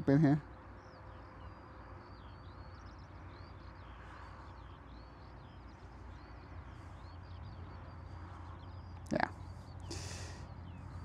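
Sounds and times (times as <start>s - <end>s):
low steady rumble: 0.0s - 11.0s
small birds chirping: 0.0s - 11.0s.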